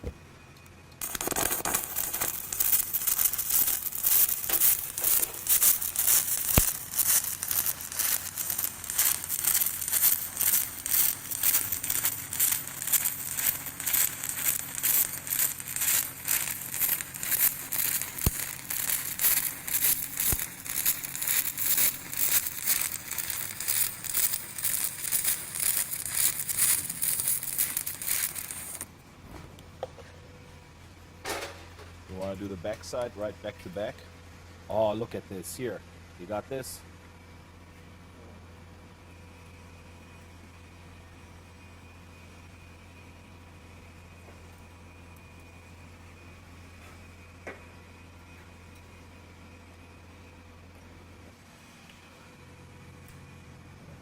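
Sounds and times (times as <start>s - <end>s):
arc welding crackle and sputter: 0.9s - 29.0s, 31.6s - 37.0s, 38.9s - 52.0s.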